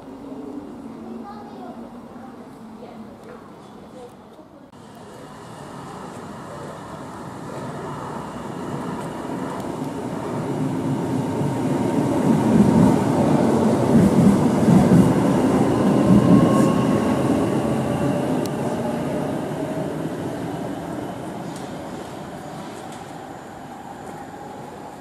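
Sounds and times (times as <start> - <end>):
train wheels rumbling on rails: 4.9 - 25.0.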